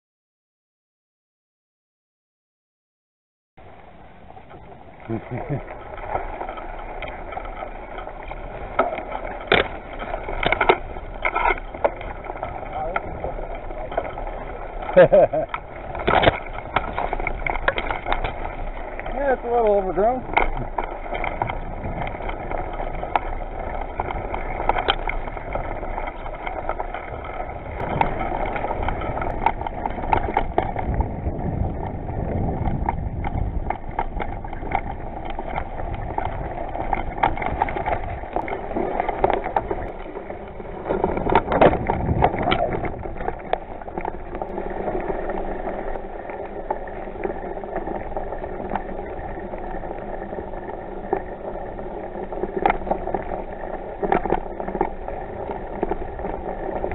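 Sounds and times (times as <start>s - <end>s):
bicycle tyres rumbling on dirt: 3.6s - 56.9s
bike rattling and clicking: 3.6s - 56.9s.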